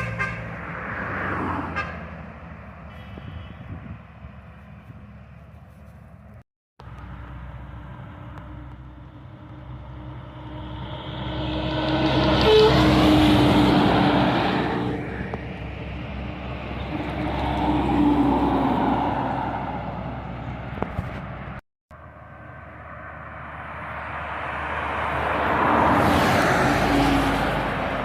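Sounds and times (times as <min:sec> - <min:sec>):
heavy trucks passing: 0:00.0 - 0:28.0.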